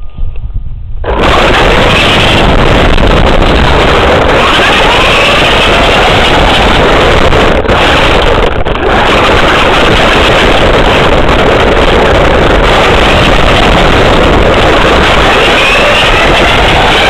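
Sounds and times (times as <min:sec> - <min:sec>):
wind rush and rolling noise: 0:00.0 - 0:17.0.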